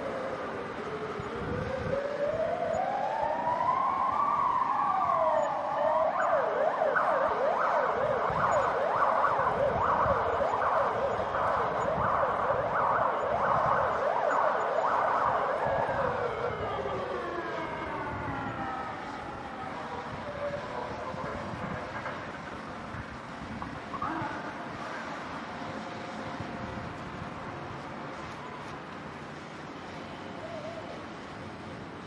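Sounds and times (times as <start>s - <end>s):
city traffic rumble: 0.0s - 32.0s
emergency vehicle siren: 0.0s - 32.0s.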